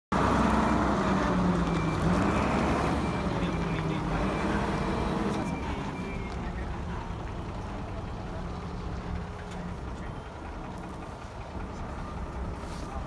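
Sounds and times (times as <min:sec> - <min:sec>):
diesel engine humming: 0:00.1 - 0:13.0.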